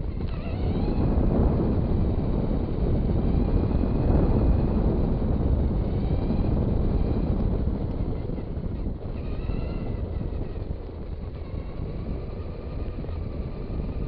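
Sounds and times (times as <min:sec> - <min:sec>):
faint electric motor whine: 0:00.0 - 0:14.0
toy truck wheels rumbling: 0:00.0 - 0:14.0.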